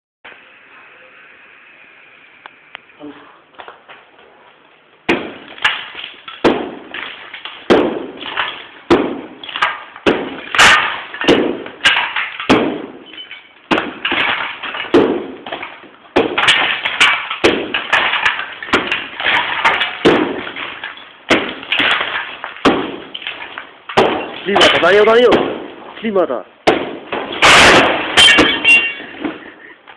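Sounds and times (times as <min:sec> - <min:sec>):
plaster cracking off wall: 0:05.1 - 0:26.0, 0:26.6 - 0:29.7.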